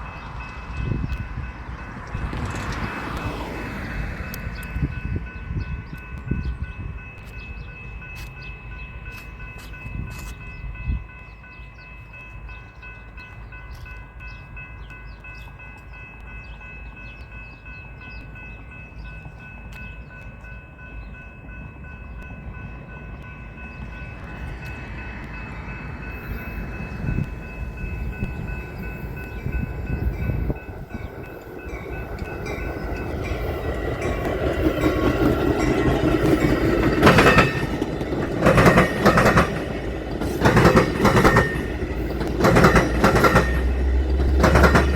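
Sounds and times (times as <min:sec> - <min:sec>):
train rumble: 0:00.0 - 0:44.9
high ringing tones: 0:04.3 - 0:44.9.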